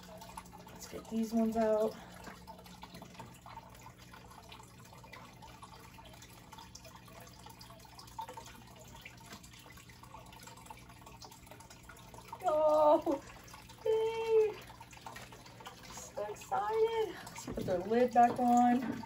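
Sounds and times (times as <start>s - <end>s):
low steady hum: 0.0s - 19.0s
water trickling and dripping: 0.0s - 19.0s.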